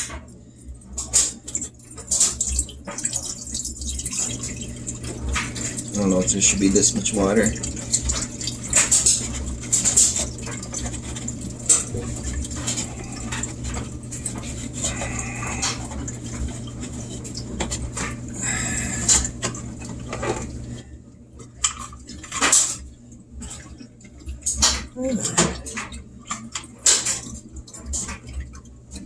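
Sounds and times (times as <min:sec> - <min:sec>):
water running into a container: 0:00.0 - 0:29.0.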